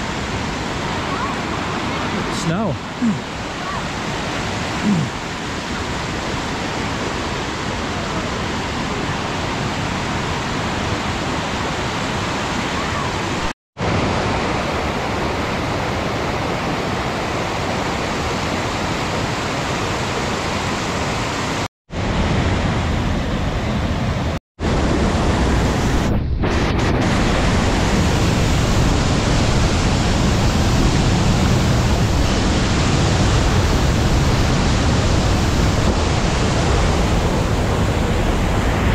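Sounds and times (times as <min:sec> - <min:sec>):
waterfall rushing: 0:00.0 - 0:26.0, 0:27.0 - 0:38.9.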